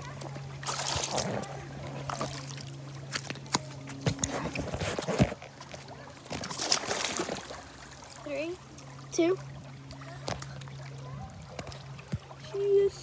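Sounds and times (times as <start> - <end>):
feet splashing through water: 0.0 - 12.9.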